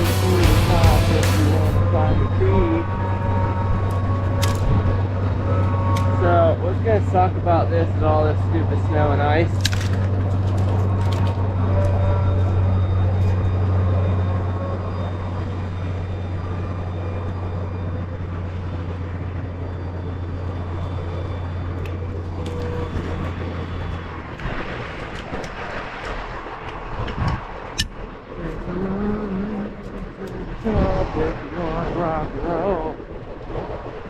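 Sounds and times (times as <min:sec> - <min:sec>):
heavy engine humming: 0:00.0 - 0:34.0.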